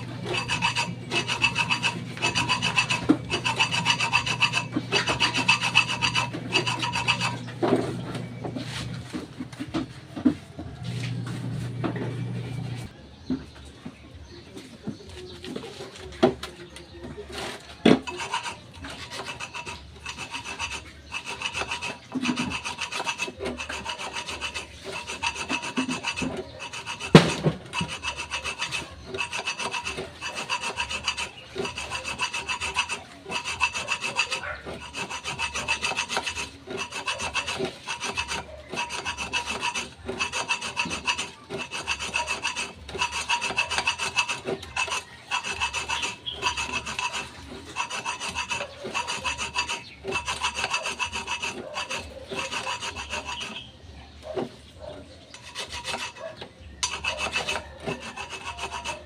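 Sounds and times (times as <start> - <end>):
metal rasping on brake drum: 0.0 - 13.0, 14.6 - 59.0.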